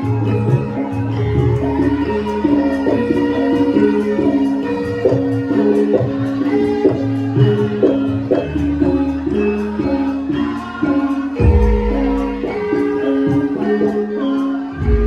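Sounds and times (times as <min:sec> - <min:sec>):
gamelan music: 0:00.0 - 0:15.0.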